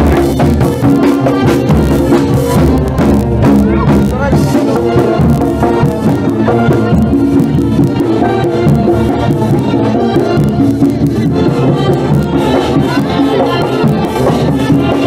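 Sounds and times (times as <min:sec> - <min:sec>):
brass melody: 0:00.0 - 0:15.0
marching drums: 0:00.0 - 0:15.0.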